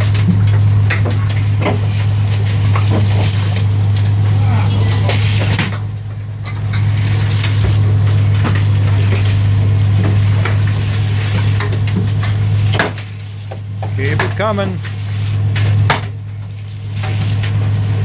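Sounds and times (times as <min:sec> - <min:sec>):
boat machinery humming: 0:00.0 - 0:18.0
gear knocking and clanking: 0:00.0 - 0:18.0.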